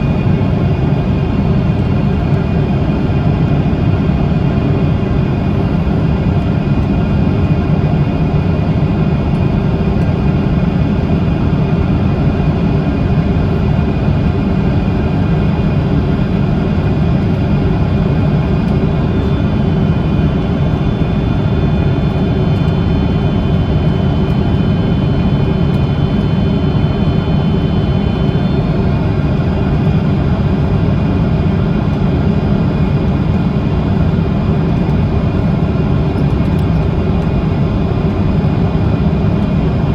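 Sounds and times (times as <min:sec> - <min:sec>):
jet airliner rumble: 0:00.0 - 0:39.9.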